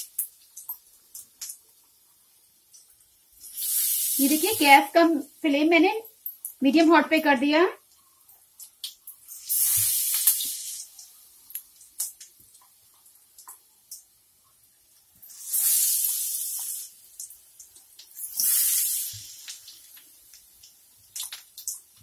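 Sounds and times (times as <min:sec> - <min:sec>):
hot oil sizzling: 0:00.0 - 0:22.0.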